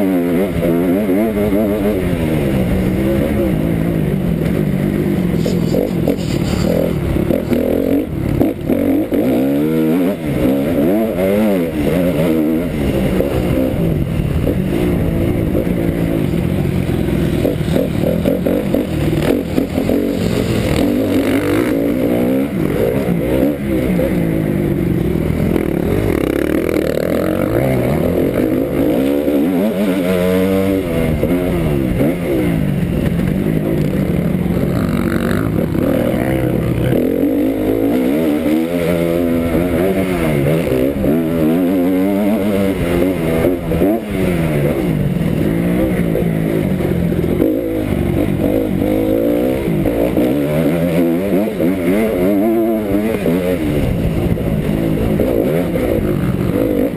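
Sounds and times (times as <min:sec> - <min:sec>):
motocross engine revving: 0:00.0 - 0:56.9.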